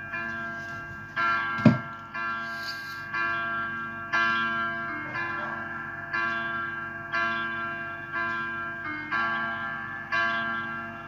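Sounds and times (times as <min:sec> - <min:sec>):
bell-like chimes music: 0:01.2 - 0:11.0.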